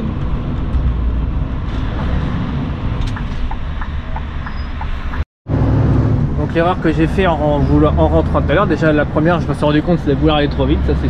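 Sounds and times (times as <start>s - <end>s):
diesel engine low rumble: 0.0s - 11.0s
road noise: 0.0s - 11.0s.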